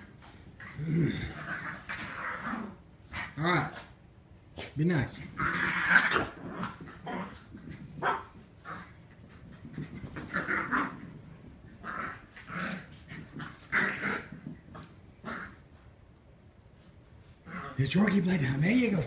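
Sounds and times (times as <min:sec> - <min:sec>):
dogs play-fighting vocalizing: 0:00.0 - 0:04.0, 0:05.3 - 0:16.0, 0:17.2 - 0:17.8.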